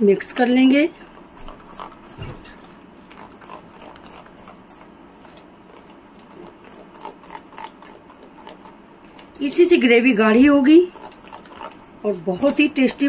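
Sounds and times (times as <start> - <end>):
spoon stirring in a bowl: 1.0 - 13.0.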